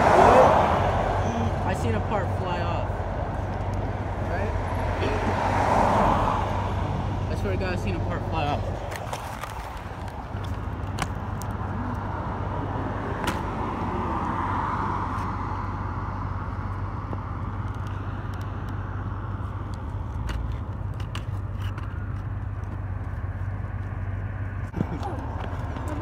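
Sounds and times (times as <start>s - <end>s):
car passing on road: 0.0s - 26.0s.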